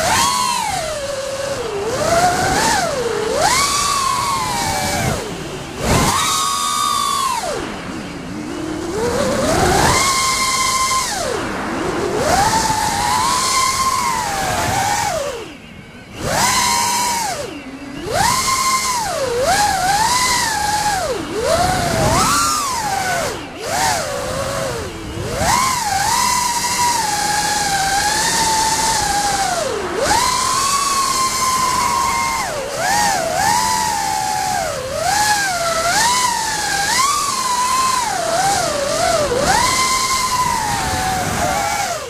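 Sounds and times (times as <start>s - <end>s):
drone motors whining: 0.0s - 42.0s.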